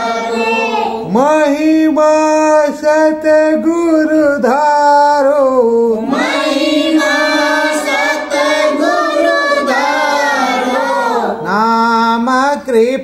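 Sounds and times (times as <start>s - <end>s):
person singing devotional hymn: 0.0s - 13.0s.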